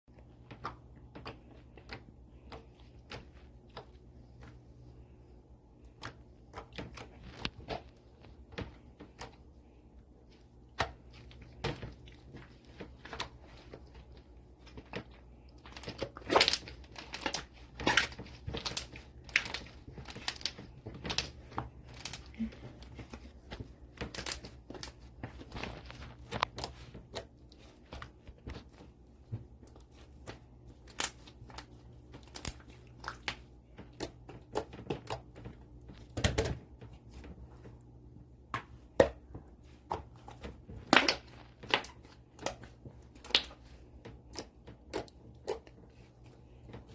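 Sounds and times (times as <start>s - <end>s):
hands squishing slime: 0.1s - 46.9s.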